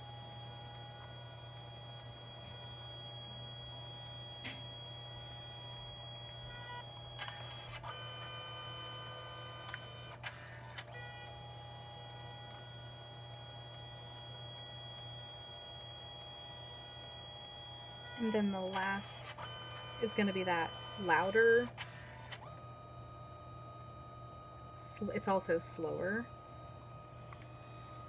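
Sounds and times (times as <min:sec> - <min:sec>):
printer motor whine: 0:00.0 - 0:28.0.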